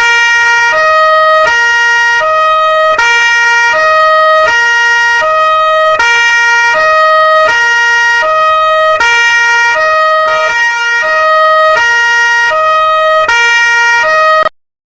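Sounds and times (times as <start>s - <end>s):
two-tone police siren: 0.0s - 14.6s.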